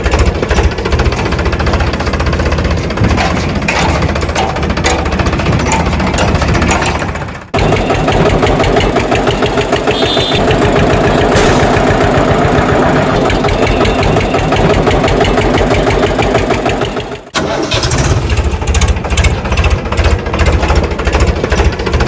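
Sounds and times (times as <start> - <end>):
tractor engine knocking: 0.0 - 22.0.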